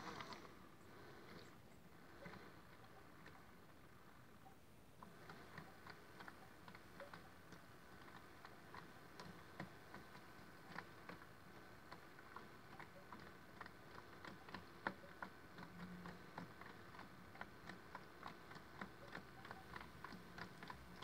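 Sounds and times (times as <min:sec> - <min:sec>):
quiet motor hum: 0:00.0 - 0:21.0.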